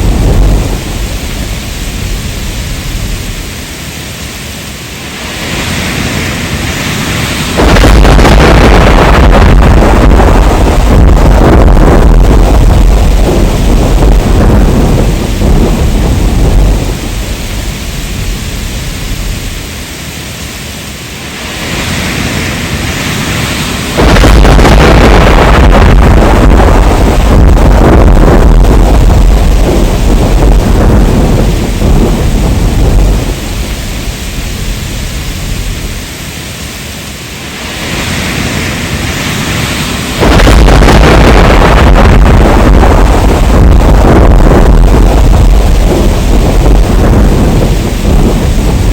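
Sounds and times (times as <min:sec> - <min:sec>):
heavy rain: 0:00.0 - 0:48.9
thunder rumbling: 0:00.0 - 0:48.9.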